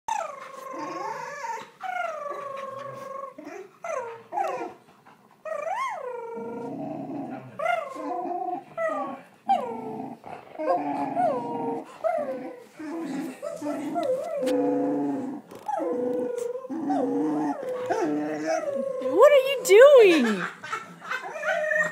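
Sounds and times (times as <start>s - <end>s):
dog moaning groans: 0.1s - 4.8s, 5.4s - 20.5s.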